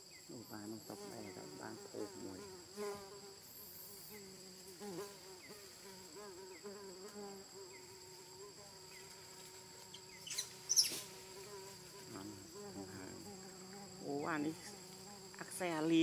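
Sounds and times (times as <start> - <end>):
high-pitched insect drone: 0.1 - 16.0.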